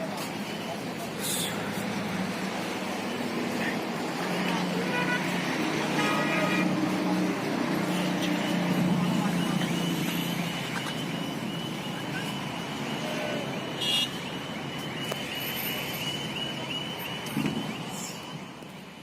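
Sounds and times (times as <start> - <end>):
motor vehicle noise: 0.0 - 19.0.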